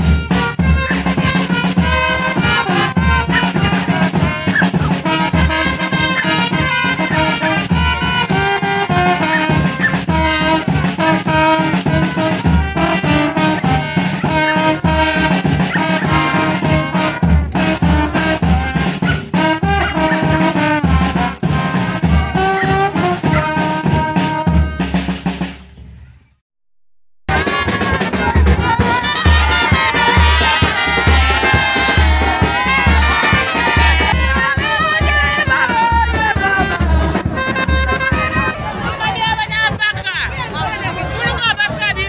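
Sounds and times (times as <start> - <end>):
trumpets and trombones: 0.0 - 26.0, 27.3 - 42.0
bass drum beating: 0.0 - 26.2, 27.3 - 41.8.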